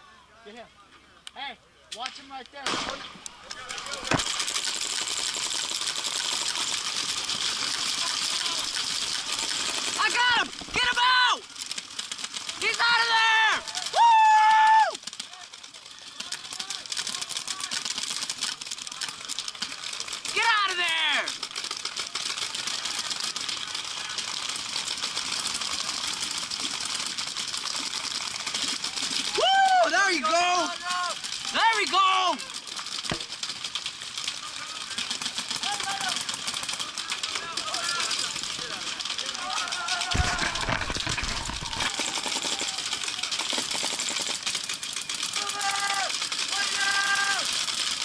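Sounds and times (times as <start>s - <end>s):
paintball markers firing rapidly: 2.0s - 29.4s, 30.6s - 48.0s.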